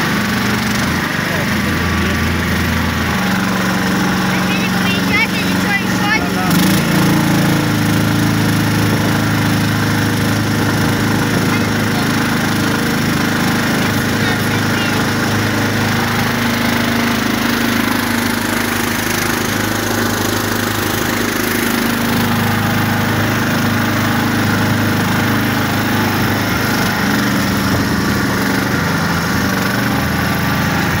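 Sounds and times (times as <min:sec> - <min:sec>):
vehicle engine running under load: 0:00.0 - 0:31.0.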